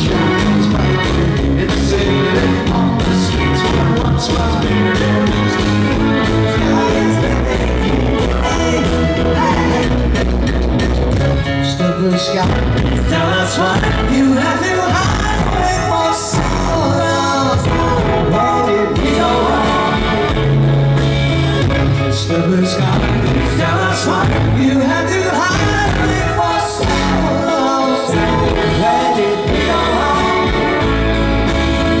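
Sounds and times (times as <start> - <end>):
electric bass guitar: 0.0 - 32.0
live rock band playing: 0.0 - 32.0.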